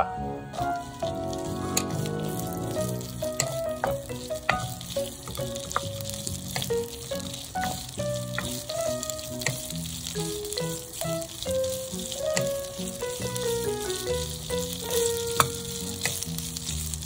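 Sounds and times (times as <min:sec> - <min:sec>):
soft background music: 0:00.0 - 0:17.0
sausages sizzling in oil: 0:00.4 - 0:17.0
spatula scraping a pan: 0:00.5 - 0:17.0.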